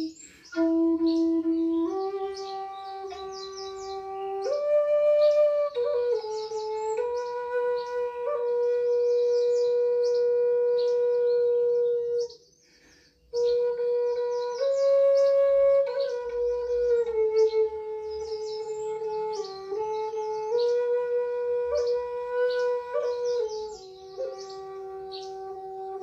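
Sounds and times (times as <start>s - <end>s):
wooden flute melody: 0.0s - 12.5s, 13.3s - 26.0s.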